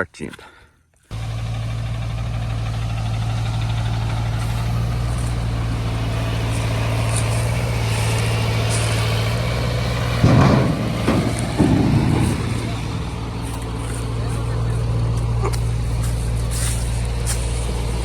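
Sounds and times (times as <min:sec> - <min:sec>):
diesel truck engine idling: 0:01.1 - 0:18.0.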